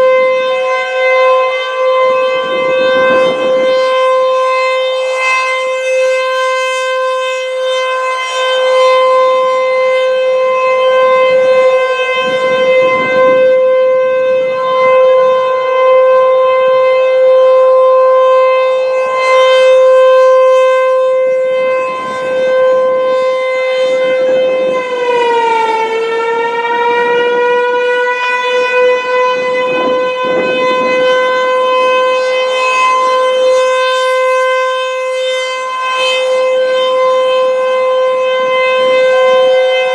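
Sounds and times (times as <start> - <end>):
civil defense siren steady tone: 0.0 - 39.9.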